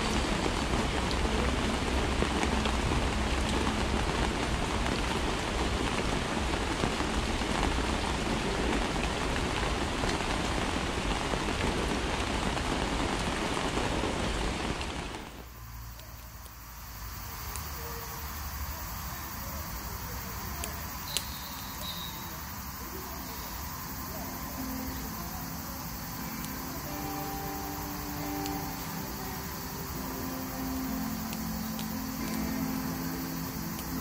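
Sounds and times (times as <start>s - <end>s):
single raindrops: 0.0s - 34.0s
steady rain falling: 0.0s - 34.0s.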